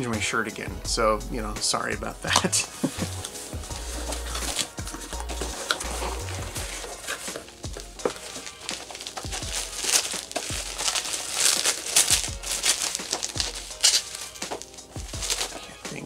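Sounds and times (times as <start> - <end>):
quiet background music: 0.0 - 16.0
packaging crinkling and tearing: 2.8 - 15.8.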